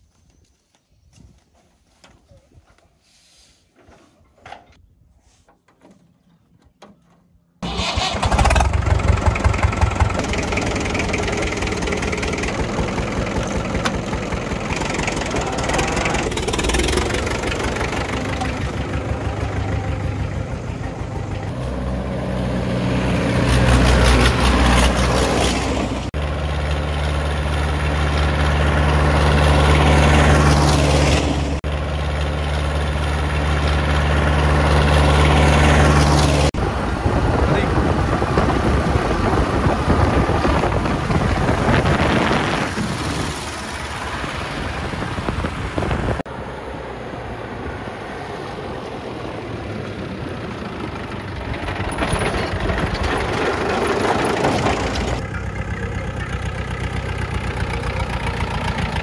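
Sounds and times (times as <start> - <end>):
tractor diesel engine running: 7.4 - 46.3, 49.3 - 59.0.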